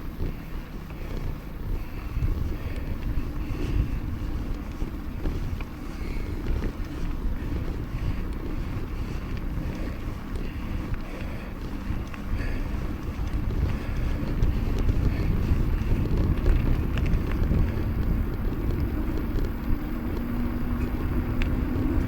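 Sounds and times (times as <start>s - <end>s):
faint ticks: 0.0s - 22.0s
wind buffeting microphone: 0.0s - 22.0s.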